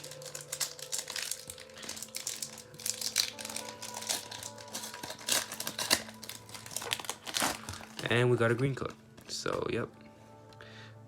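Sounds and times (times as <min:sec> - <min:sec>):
foil wrapper crinkling and tearing: 0:00.0 - 0:09.0
background music: 0:00.0 - 0:11.0.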